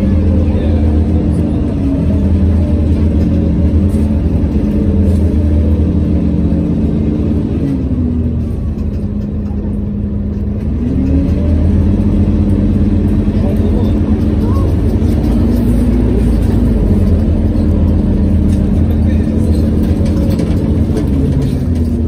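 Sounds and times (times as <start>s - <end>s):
bus engine low rumble: 0.0s - 22.0s.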